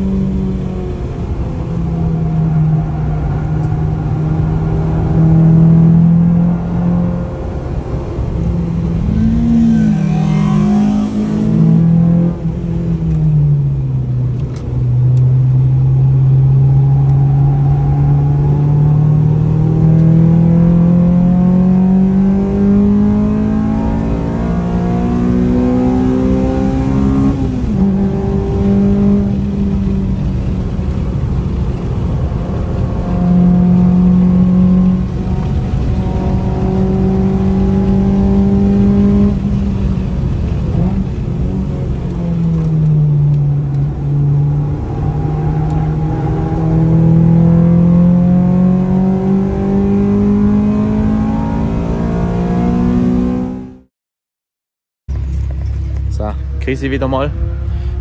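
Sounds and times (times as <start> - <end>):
car engine revving under throttle: 0.0 - 53.9, 55.1 - 58.0.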